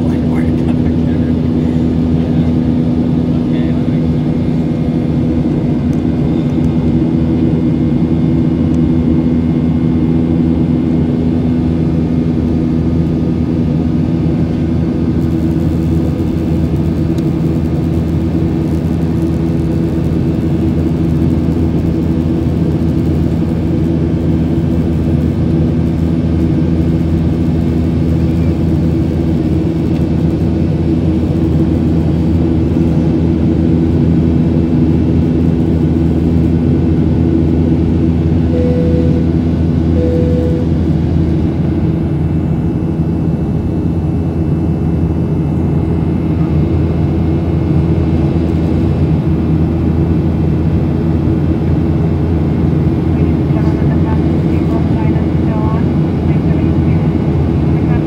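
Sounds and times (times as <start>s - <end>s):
airliner cabin engine hum: 0.0s - 58.0s.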